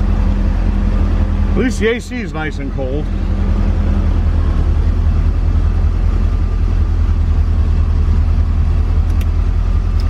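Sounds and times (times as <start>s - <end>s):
car engine idling: 0.0s - 10.0s
electric cooling fan running: 0.0s - 10.0s.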